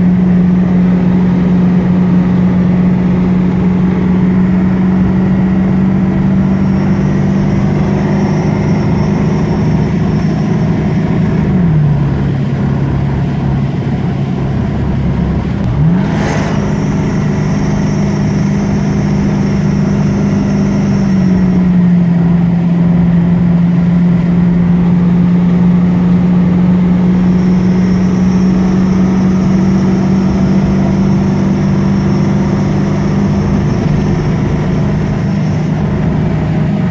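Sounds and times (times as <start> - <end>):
car running with whining tone: 0.0 - 36.9.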